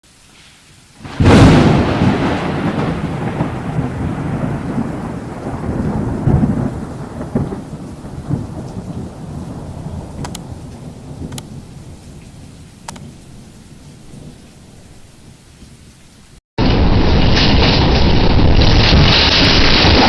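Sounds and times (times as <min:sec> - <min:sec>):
rain hissing: 0:00.0 - 0:20.0
rolling thunder: 0:01.0 - 0:15.0, 0:16.6 - 0:20.0.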